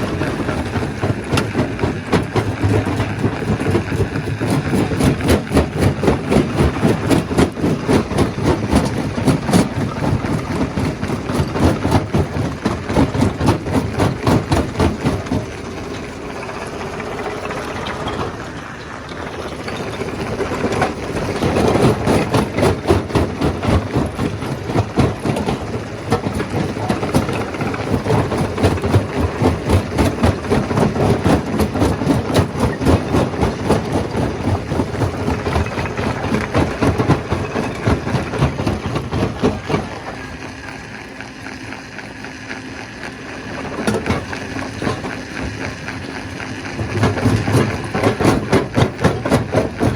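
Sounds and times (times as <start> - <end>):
rock clattering in machine: 0.0 - 40.6, 43.4 - 49.9
stone crusher running: 0.0 - 49.9.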